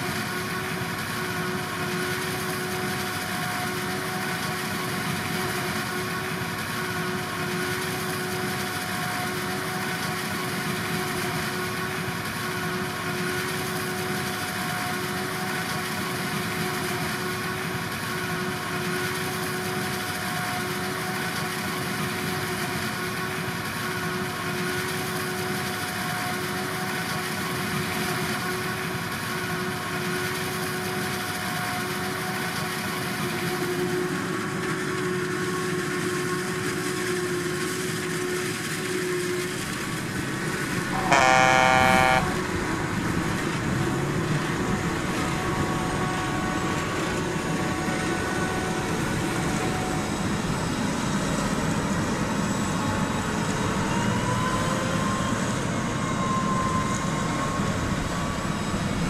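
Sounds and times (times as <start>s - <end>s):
farm machinery engine: 0.0s - 53.8s
constant machine whine: 0.0s - 59.0s.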